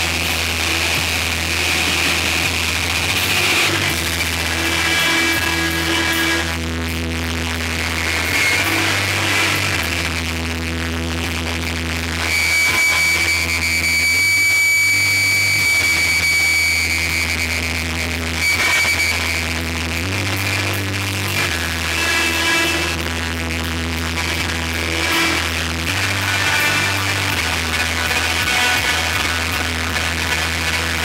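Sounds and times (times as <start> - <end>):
deep bass line: 0.0 - 31.0
live electronic rock band: 0.0 - 31.0.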